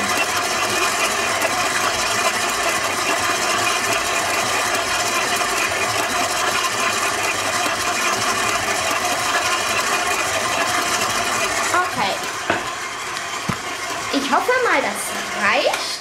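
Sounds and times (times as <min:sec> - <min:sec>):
stand mixer churning dough: 0:00.0 - 0:16.0.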